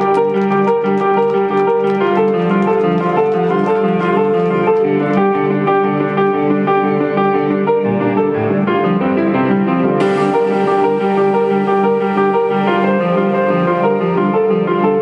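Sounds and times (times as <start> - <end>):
sustained keyboard chords: 0.0 - 7.7, 10.0 - 15.0.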